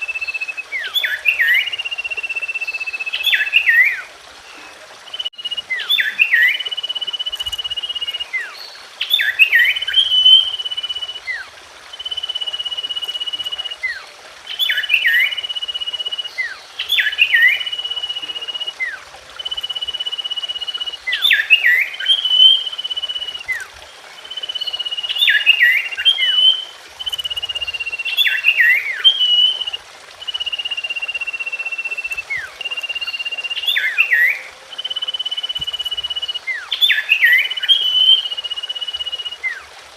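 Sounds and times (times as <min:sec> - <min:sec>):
bird singing whistles and sharp notes: 0:00.0 - 0:39.7.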